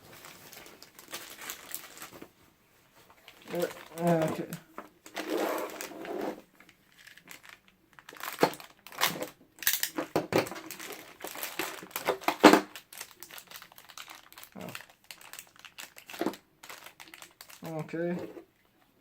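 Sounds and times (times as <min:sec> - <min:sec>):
plastic packaging crinkling: 0:00.0 - 0:18.3.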